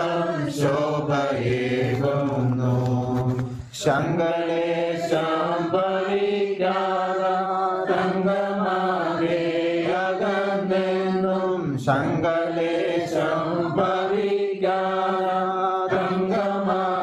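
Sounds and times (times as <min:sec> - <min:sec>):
person singing a slow hymn: 0:00.0 - 0:17.0.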